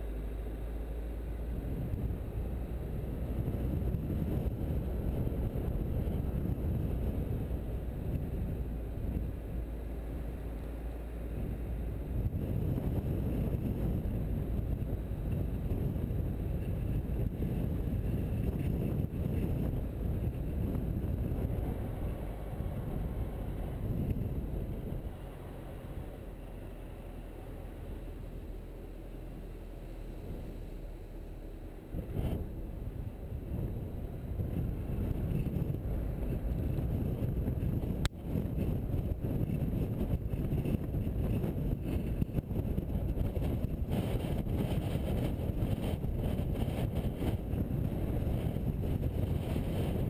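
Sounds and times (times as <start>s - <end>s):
car driving on paved road: 0.0s - 50.0s
wind buffeting microphone: 1.5s - 28.5s, 31.8s - 50.0s.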